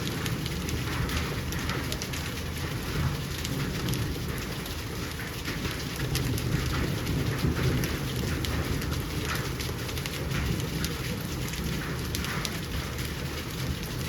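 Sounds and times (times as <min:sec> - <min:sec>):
heavy rain falling: 0:00.0 - 0:14.0
water drips and splashes: 0:00.0 - 0:14.0.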